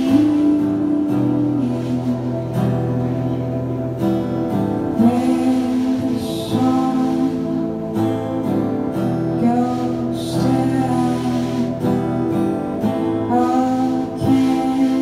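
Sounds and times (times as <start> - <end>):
bass guitar: 0.0 - 15.0
electric guitar: 0.0 - 15.0
strummed acoustic guitar: 0.0 - 15.0.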